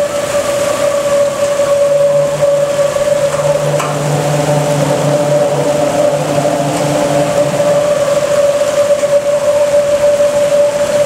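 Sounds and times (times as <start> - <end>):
steady multi-pitched hum: 0.0 - 11.0
water rushing through channel: 0.0 - 11.0
deeper hum: 0.8 - 11.0.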